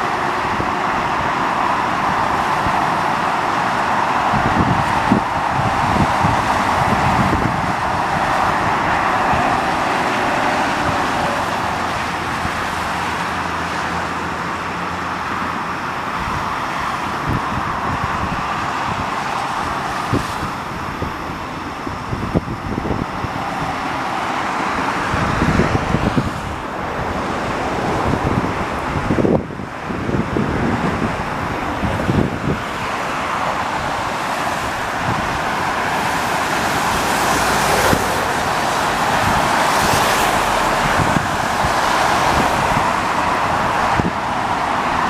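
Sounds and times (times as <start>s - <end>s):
road noise of traffic: 0.0s - 45.0s
wind buffeting microphone: 0.0s - 45.0s.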